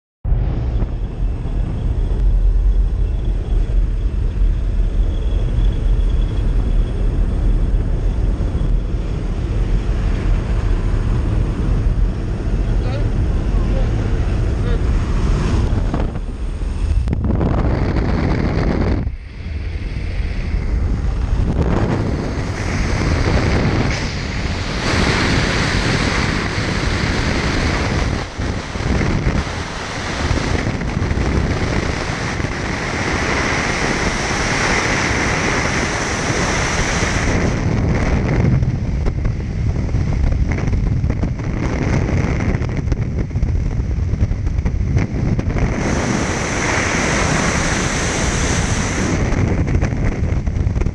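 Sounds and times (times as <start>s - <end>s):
wind rushing over microphone: 0.2s - 50.9s.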